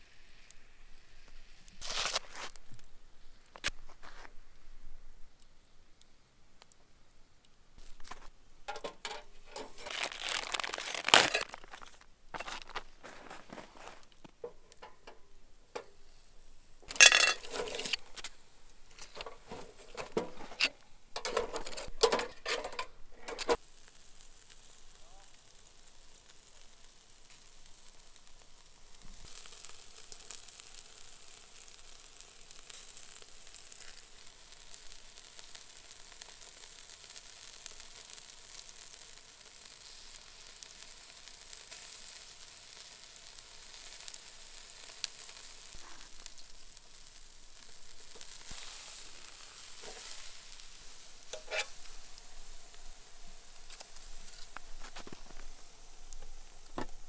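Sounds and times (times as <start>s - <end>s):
meat sizzling on a grill: 0.0s - 57.0s
small crackles and pops: 0.1s - 57.0s.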